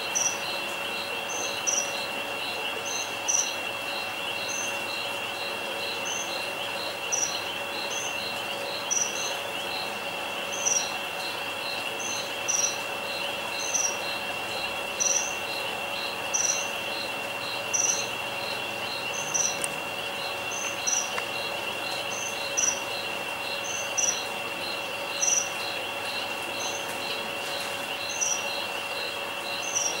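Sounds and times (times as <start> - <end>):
insect high trill: 0.0 - 30.0
short even cricket chirps: 0.1 - 30.0.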